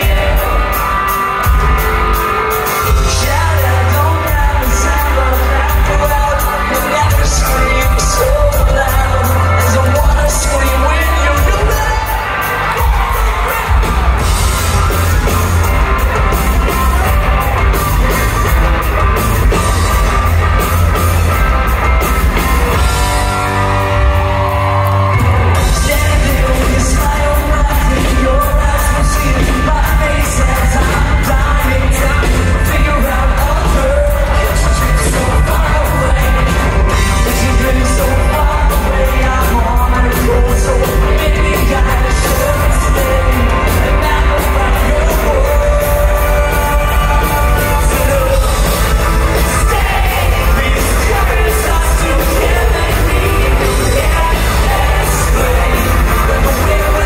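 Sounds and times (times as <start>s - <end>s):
lead vocals singing: 0.0s - 21.4s, 22.0s - 57.0s
live pop-punk band playing: 0.0s - 57.0s.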